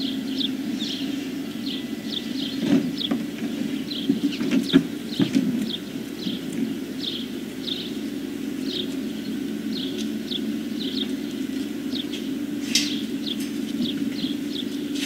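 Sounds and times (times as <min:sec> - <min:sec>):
small bird chirping: 0:00.0 - 0:14.9
steady low hum: 0:00.0 - 0:15.0.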